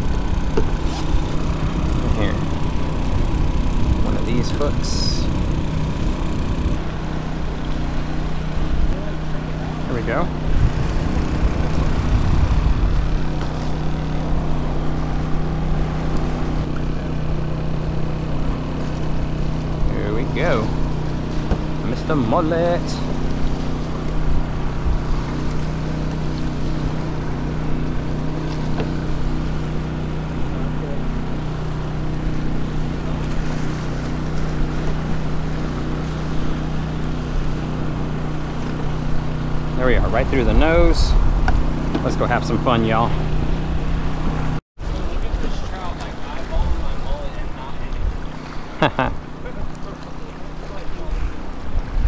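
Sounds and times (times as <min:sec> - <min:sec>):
portable generator humming: 0:00.0 - 0:51.8.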